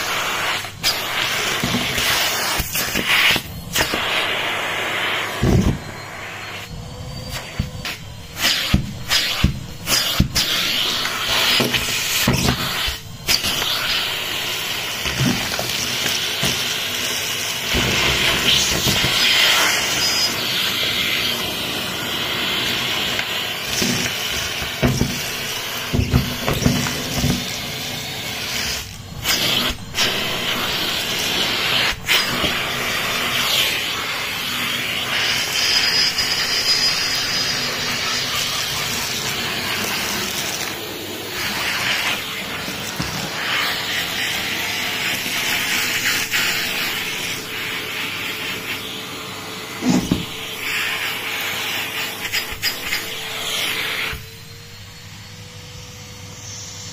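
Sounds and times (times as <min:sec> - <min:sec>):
debris rattling up vacuum hose: 0:00.0 - 0:04.3, 0:07.3 - 0:49.0
vacuum cleaner running: 0:00.0 - 0:56.9.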